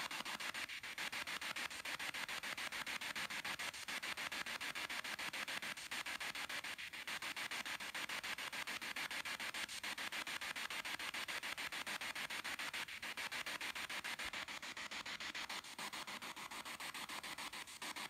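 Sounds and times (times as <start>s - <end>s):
chopped radio static hiss: 0.0s - 18.0s.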